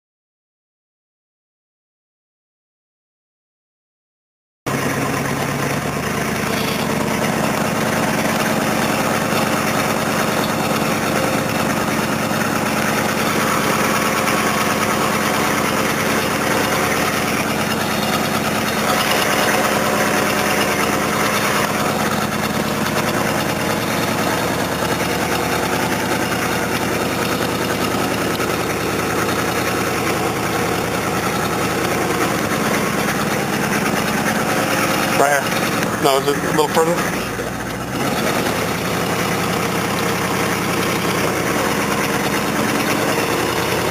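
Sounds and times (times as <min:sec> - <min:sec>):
engine humming steadily: 0:04.7 - 0:43.9.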